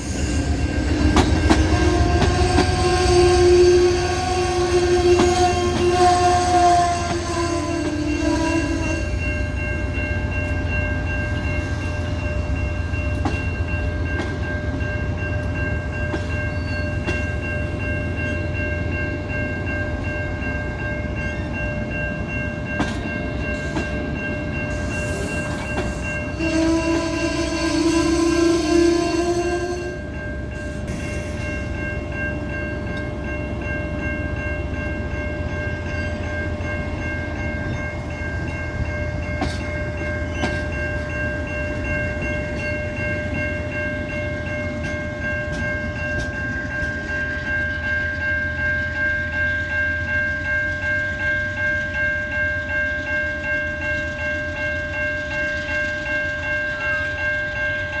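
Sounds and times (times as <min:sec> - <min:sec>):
bell ringing steadily: 0:00.0 - 0:58.0
passenger train rolling past: 0:00.0 - 0:58.0
train wheel clicks: 0:00.1 - 0:18.9, 0:19.5 - 0:58.0.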